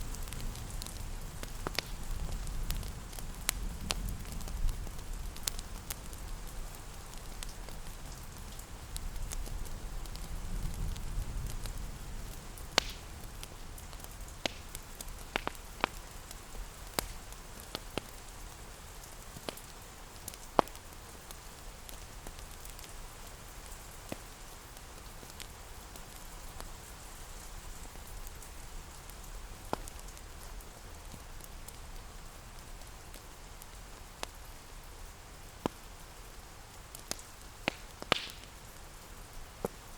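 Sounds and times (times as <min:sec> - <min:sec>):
rain pattering: 0:00.0 - 0:39.9
wood fire crackling: 0:00.0 - 0:39.9.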